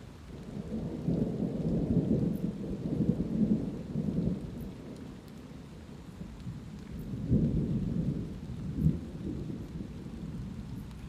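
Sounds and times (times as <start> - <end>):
light rain hiss: 0.0 - 11.0
thunder rumbling: 0.3 - 11.0.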